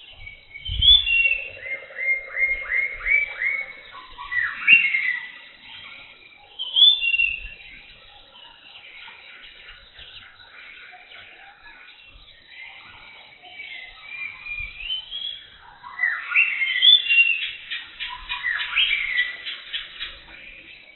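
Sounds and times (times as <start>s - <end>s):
jungle birds chirping: 0.0s - 20.9s.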